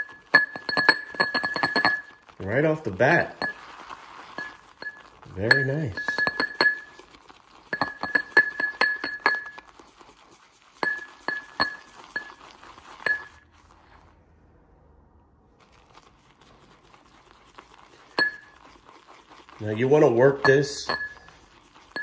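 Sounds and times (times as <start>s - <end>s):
shaving brush clinking against bowl: 0.0s - 13.8s, 15.7s - 22.0s
soft brushing: 0.0s - 14.5s, 15.6s - 22.0s.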